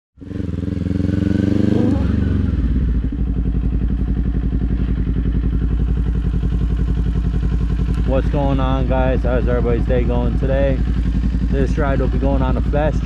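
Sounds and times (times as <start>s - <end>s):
motorcycle engine idling: 0.2s - 13.0s.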